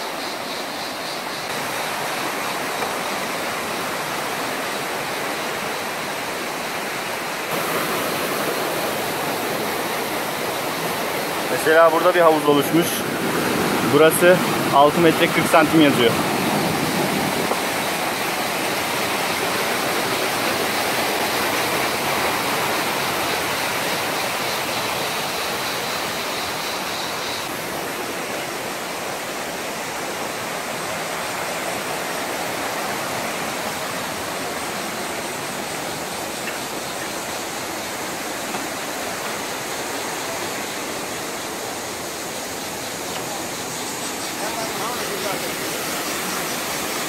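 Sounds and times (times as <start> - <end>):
stream water rushing over rocks: 0.0 - 47.0.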